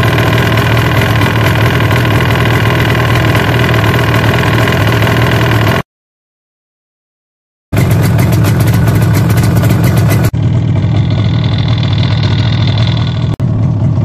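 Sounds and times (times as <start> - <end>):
muffled engine idling: 0.0 - 5.8, 7.8 - 14.0
two-stroke engine running: 0.0 - 5.9, 7.7 - 14.0.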